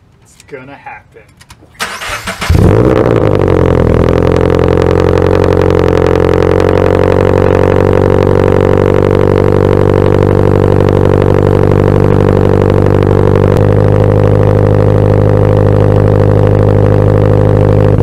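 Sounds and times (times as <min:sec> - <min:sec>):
car engine idling high: 0:01.8 - 0:18.0.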